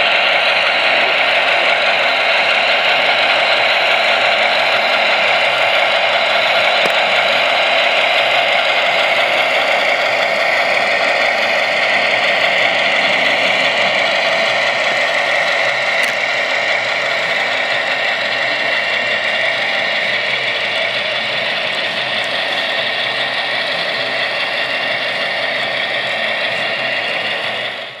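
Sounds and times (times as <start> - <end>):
model diesel engine sound: 0.0 - 28.0
wheels rattling on track: 0.0 - 28.0.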